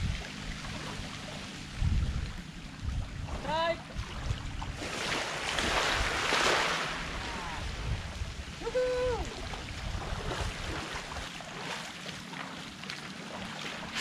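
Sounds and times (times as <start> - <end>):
seawater splashing: 0.0 - 14.0.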